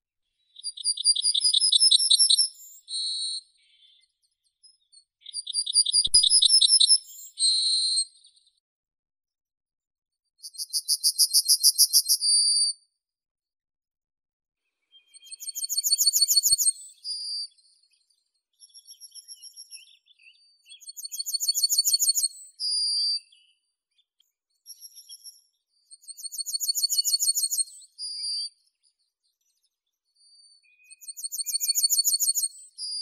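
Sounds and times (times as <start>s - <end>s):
bird song of repeated high notes: 0.2s - 8.6s, 14.6s - 33.0s.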